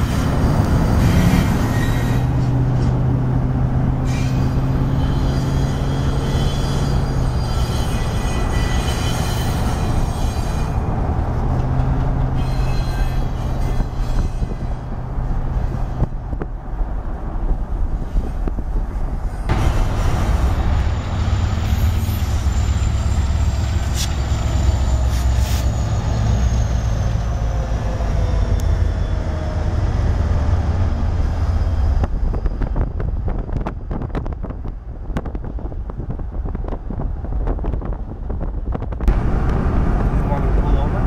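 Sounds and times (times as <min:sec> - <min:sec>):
freight train rumbling past: 0:00.0 - 0:41.0.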